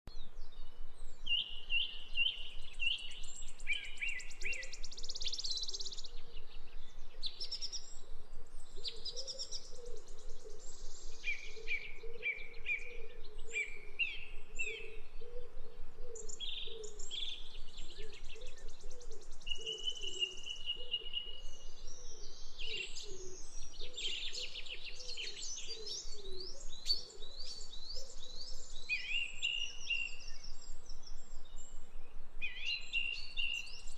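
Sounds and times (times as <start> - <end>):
songbirds chirping and trilling: 0.1 - 33.9.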